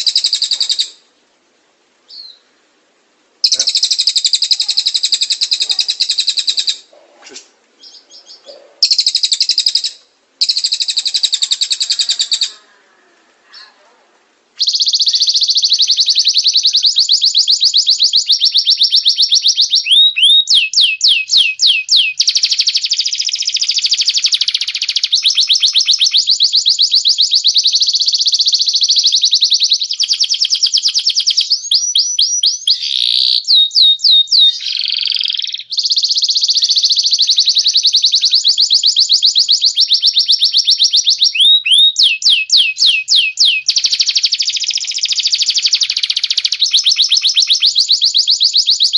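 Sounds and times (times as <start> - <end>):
songbirds trilling: 2.1 - 2.7, 3.4 - 12.8, 14.6 - 48.9.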